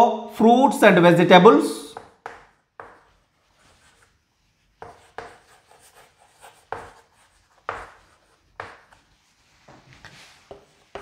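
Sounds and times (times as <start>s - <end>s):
chalk strokes on chalkboard: 2.0s - 11.0s.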